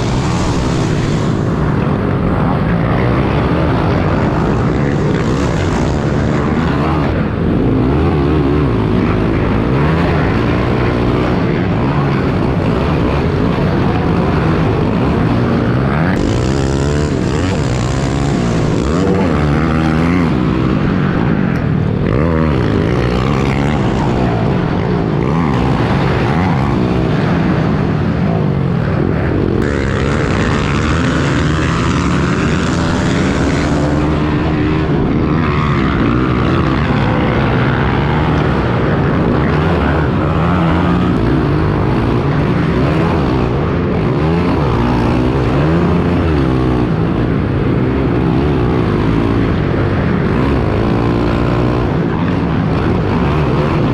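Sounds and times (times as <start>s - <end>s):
pit bike engines revving: 0.0s - 53.9s.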